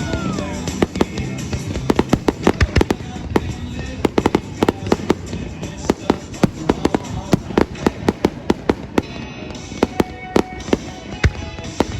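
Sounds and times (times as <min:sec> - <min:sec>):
fireworks bangs and pops: 0:00.0 - 0:11.9.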